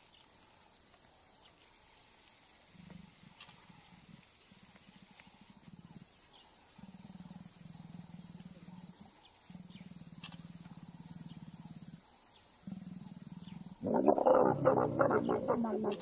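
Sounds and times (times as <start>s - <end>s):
leopards growling: 2.7s - 16.0s.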